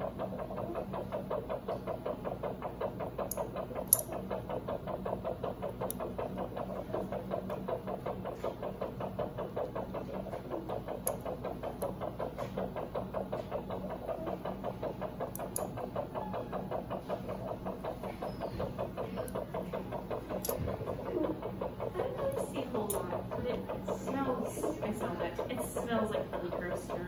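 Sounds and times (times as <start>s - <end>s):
low equipment hum: 0.0s - 27.0s
rapid heartbeat monitor pulsing: 0.0s - 27.0s.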